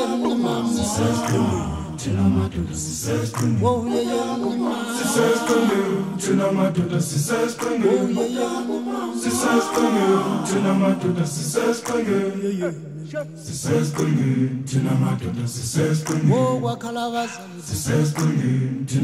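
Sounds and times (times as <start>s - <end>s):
a cappella group singing: 0.0s - 19.0s.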